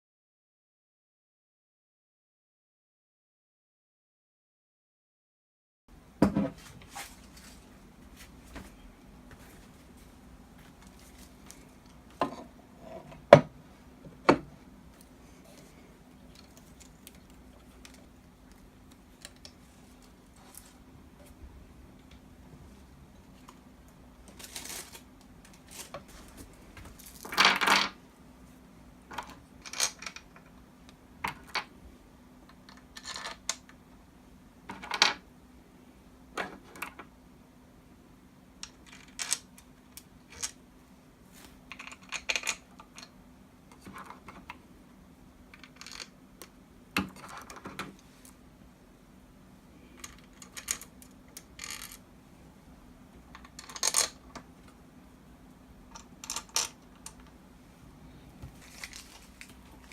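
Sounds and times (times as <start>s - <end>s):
faint steady hum: 5.9s - 59.9s.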